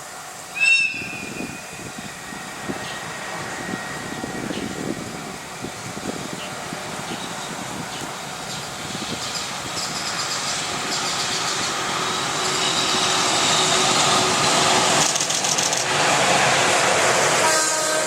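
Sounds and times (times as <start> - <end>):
freight train rolling: 0.0 - 18.0.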